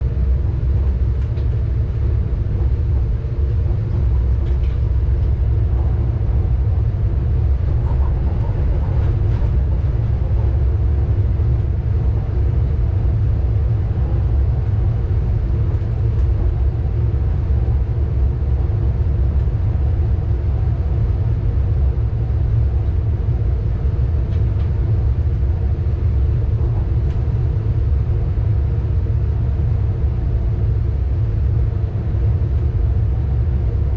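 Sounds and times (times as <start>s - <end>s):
train rumbling at speed: 0.0s - 33.9s.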